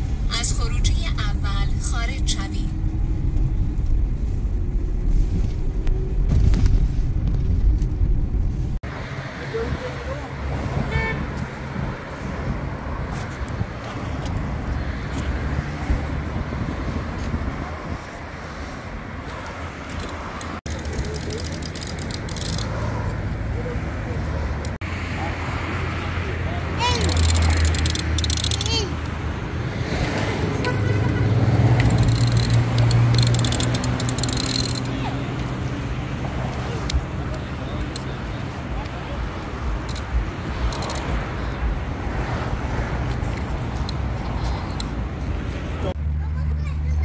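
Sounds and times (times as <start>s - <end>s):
road traffic rumble: 0.0s - 47.0s
vehicle engine hum passing: 0.0s - 47.0s.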